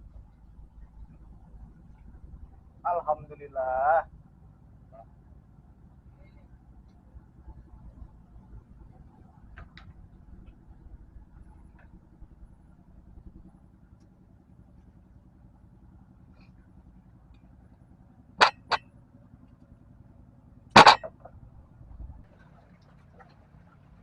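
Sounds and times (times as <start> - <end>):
engine hum: 0.0 - 24.0.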